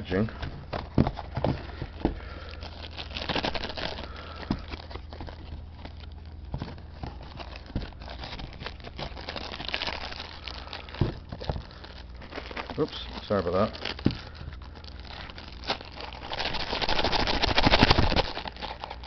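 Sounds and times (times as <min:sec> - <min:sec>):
steady low hum: 0:00.0 - 0:19.0
packaging crinkling: 0:00.1 - 0:19.0.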